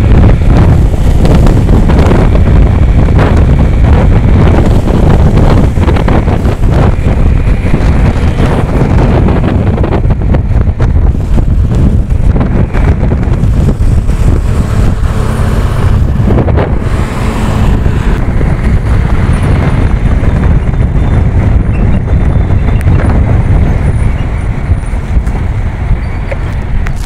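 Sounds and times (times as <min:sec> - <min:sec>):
road and traffic noise: 0:00.0 - 0:27.0
wind rush on microphone: 0:00.0 - 0:27.0.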